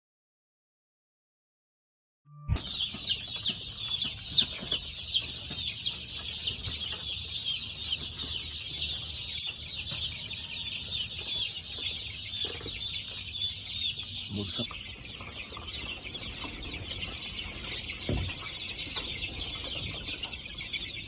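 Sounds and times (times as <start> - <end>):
chicks peeping: 2.6 - 21.0.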